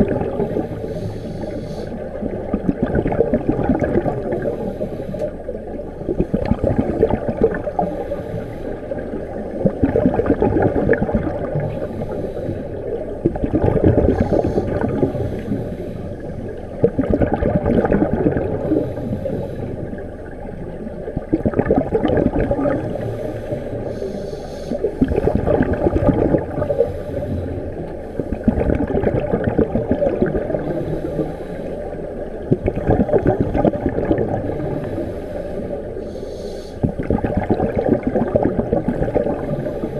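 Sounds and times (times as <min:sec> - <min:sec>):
underwater breath bubbles: 0:00.0 - 0:39.9.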